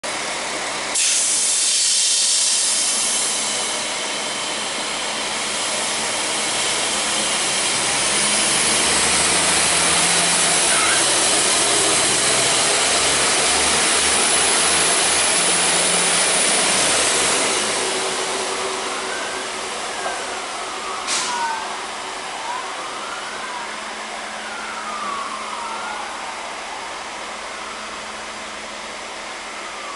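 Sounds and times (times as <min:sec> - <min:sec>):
diesel train engine noise: 0:00.0 - 0:29.9.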